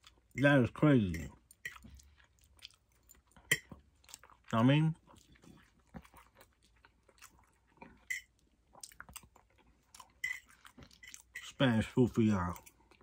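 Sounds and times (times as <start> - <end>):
man chewing food: 0.0 - 11.5, 12.1 - 13.0.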